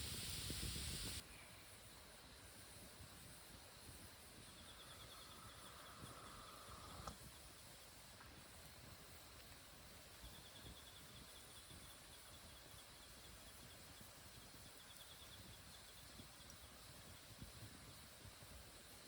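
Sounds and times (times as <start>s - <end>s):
high rapid insect trill: 0.0s - 19.0s.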